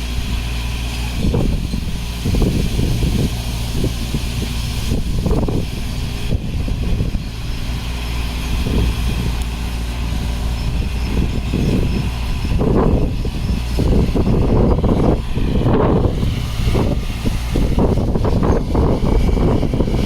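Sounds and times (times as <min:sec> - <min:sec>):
diesel engine running roughly: 0:00.0 - 0:20.0.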